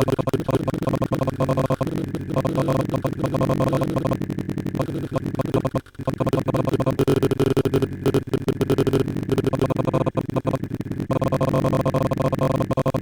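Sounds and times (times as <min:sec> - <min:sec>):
music with pulsing beat: 0:00.0 - 0:13.0.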